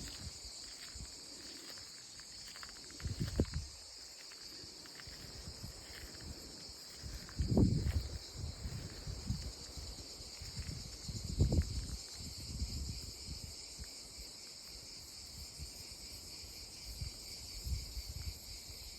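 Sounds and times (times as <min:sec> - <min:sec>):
cicadas buzzing: 0:00.0 - 0:18.9.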